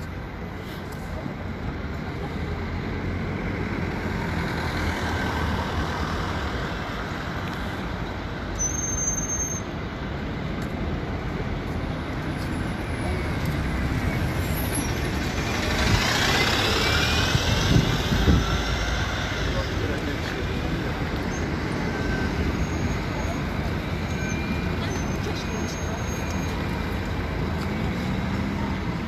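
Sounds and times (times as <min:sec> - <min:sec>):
bus engine passing by: 0:00.0 - 0:29.0
street traffic noise: 0:00.0 - 0:29.0.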